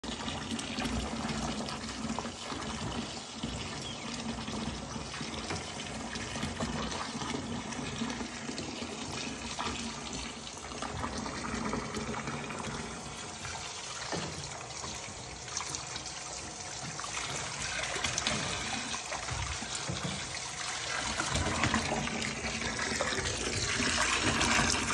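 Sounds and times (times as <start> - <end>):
faucet pouring water into bath: 0.0 - 24.9.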